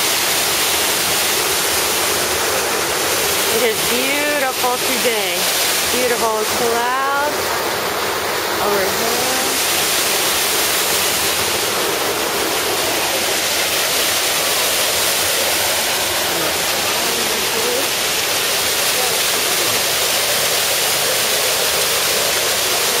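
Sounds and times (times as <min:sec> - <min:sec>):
waterfall splashing into pond: 0:00.0 - 0:23.0.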